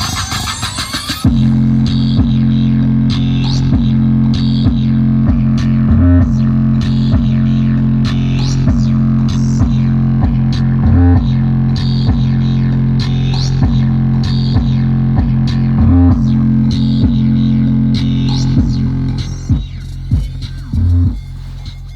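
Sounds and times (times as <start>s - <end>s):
bass-heavy guitar music: 1.2s - 21.9s.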